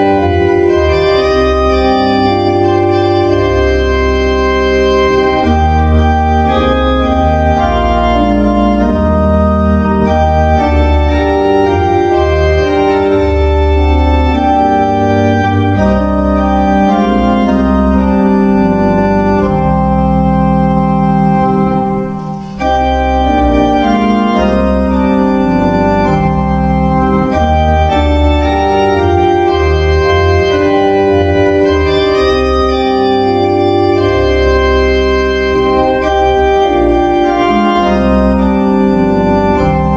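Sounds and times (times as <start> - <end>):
organ playing held chords: 0.0 - 39.9.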